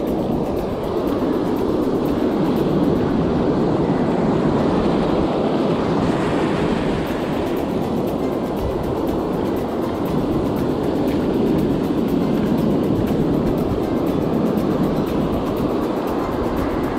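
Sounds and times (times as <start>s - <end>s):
wind on microphone: 0.0s - 16.9s.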